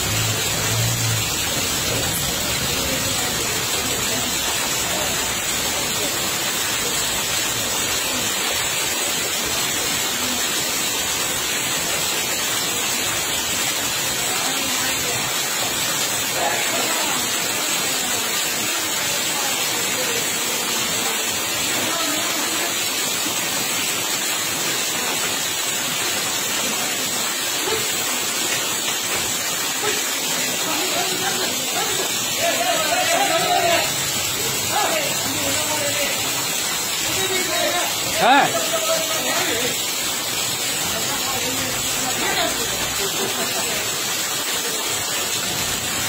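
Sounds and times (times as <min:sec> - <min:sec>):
heavy rain on floodwater: 0:00.0 - 0:46.0.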